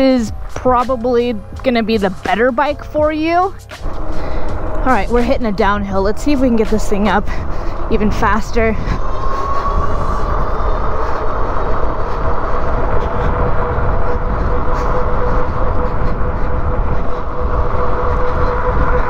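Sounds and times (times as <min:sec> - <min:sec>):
road noise: 0:00.0 - 0:19.0
steady motor whine: 0:00.0 - 0:19.0
wind buffeting microphone: 0:00.0 - 0:19.0.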